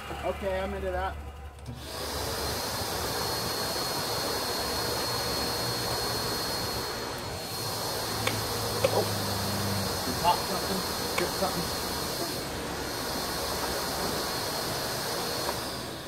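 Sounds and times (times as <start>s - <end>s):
table saw and vacuum running: 0.0s - 16.0s.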